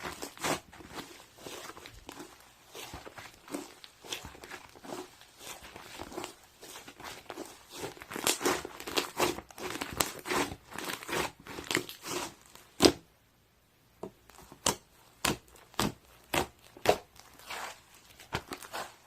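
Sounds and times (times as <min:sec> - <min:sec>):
slime squished by hand: 0:00.0 - 0:13.0, 0:14.2 - 0:19.0.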